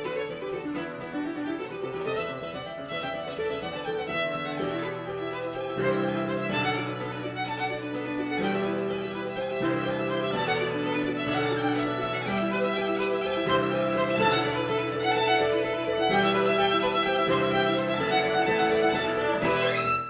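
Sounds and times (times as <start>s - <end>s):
piano chords: 0.0s - 20.0s
violin melody: 0.0s - 20.0s.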